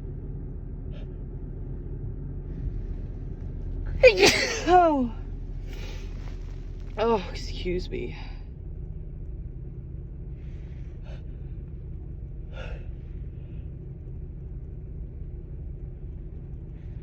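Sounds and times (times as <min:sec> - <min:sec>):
car road noise rumble: 0:01.4 - 0:17.0.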